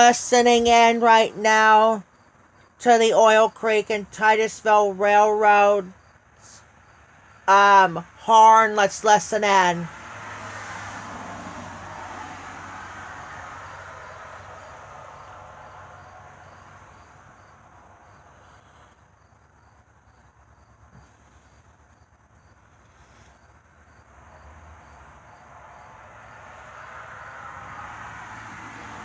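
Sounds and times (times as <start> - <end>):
insects chirping: 0.0 - 10.6, 11.7 - 29.0.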